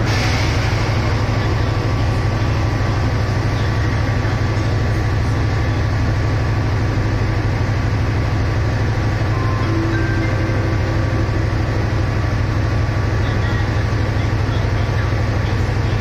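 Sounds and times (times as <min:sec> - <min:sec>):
diesel locomotive engine idling: 0:00.0 - 0:16.0.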